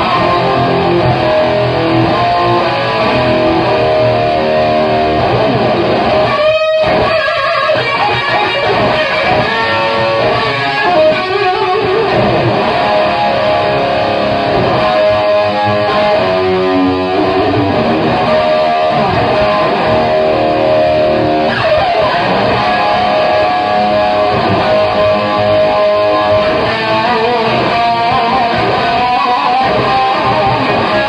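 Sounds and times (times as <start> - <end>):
overdriven electric guitar: 0.0 - 31.0.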